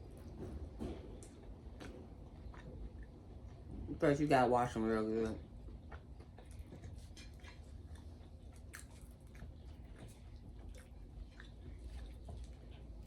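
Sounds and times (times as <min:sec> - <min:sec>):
person chewing food: 0:00.0 - 0:03.7, 0:05.4 - 0:13.0.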